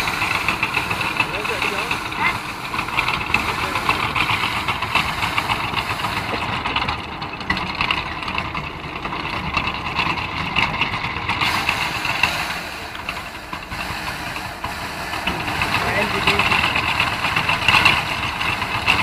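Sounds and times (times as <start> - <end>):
drum thresher rattling: 0.0 - 19.0.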